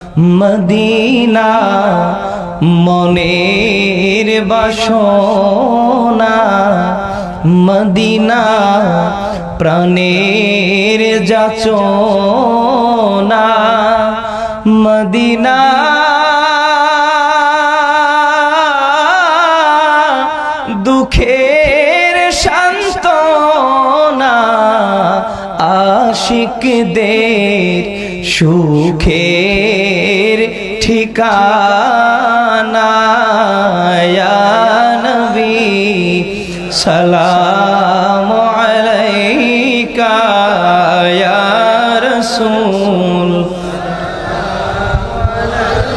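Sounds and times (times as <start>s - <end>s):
person singing devotional song: 0.0s - 45.9s.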